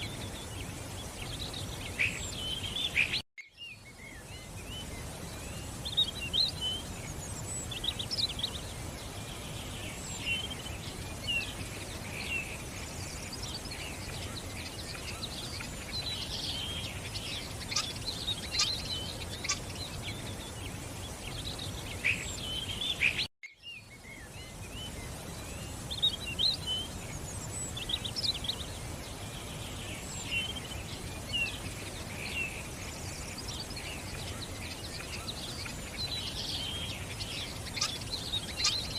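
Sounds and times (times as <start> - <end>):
songbirds chirping and trilling: 0.0 - 38.9
running water: 3.9 - 23.3, 24.0 - 38.9.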